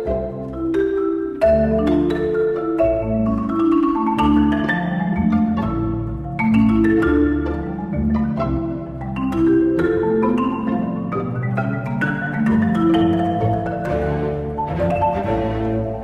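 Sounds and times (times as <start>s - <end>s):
marimba played with mallets: 0.0s - 16.0s.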